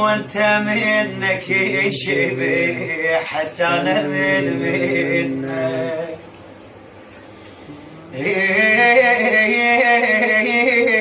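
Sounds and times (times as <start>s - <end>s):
man singing sustained notes: 0.0s - 6.2s, 7.7s - 11.0s.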